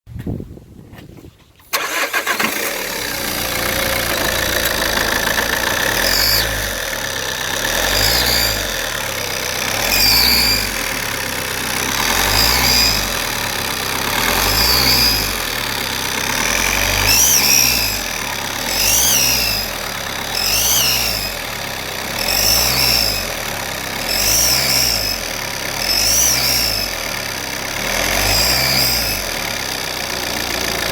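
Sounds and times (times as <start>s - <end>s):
diesel engine idling: 1.8s - 30.9s.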